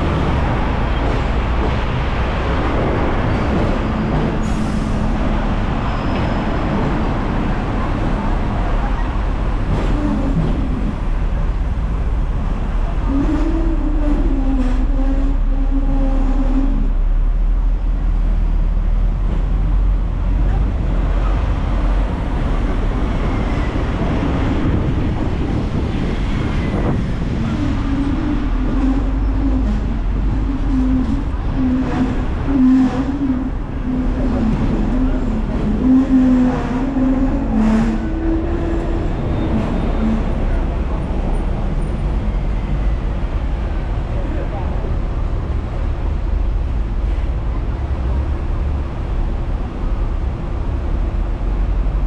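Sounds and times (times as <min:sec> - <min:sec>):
tram wheels rumbling on rails: 0:00.0 - 0:52.0.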